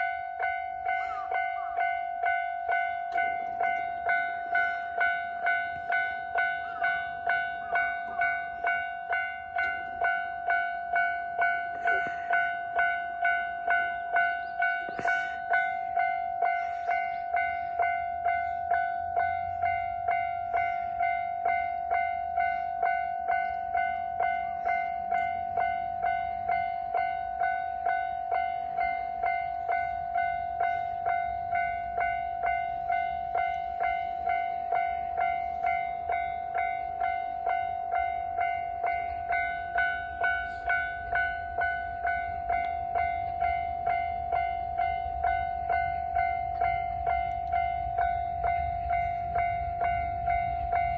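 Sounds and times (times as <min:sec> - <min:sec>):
level-crossing bell ringing: 0:00.0 - 0:50.9.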